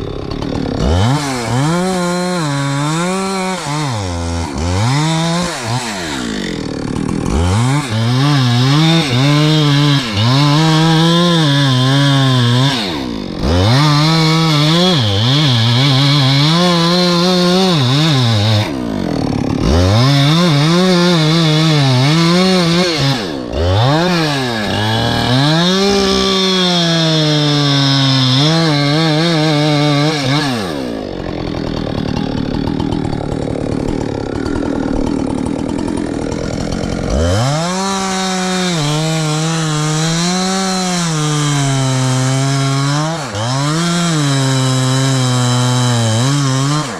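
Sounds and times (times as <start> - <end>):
chainsaw engine revving: 0.0 - 46.9.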